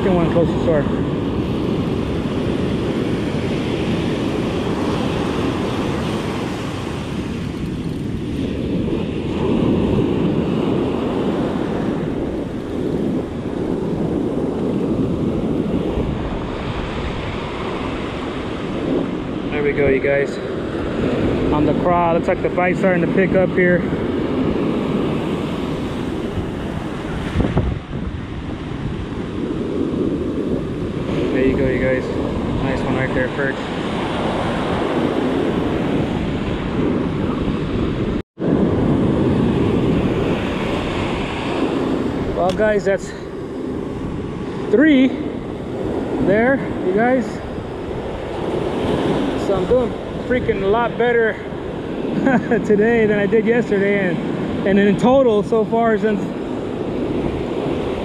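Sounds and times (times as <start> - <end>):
surf breaking on sand: 0.0 - 58.0
wind rumbling on microphone: 0.0 - 58.0.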